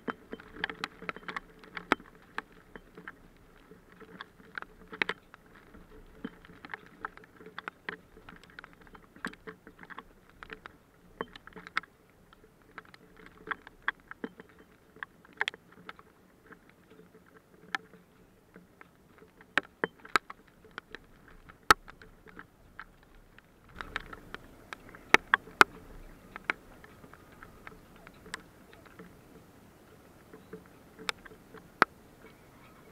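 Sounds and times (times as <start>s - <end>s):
faint steady hum: 0.0s - 32.9s
raindrops ticking on hard surfaces: 0.0s - 32.9s.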